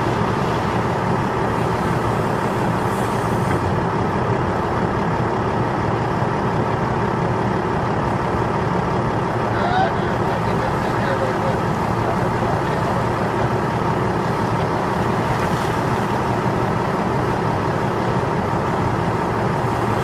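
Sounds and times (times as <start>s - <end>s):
heavy diesel machinery drone: 0.0s - 20.0s.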